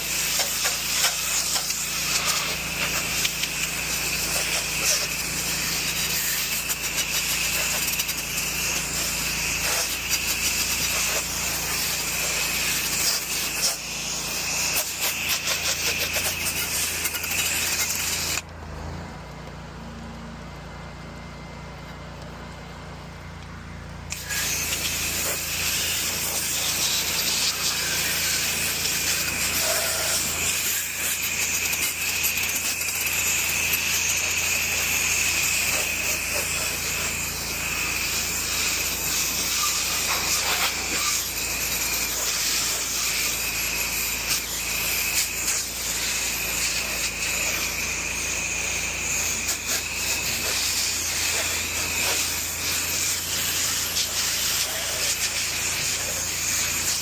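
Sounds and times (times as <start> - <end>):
pressure washer spray hissing: 0.0 - 18.4, 24.1 - 57.0.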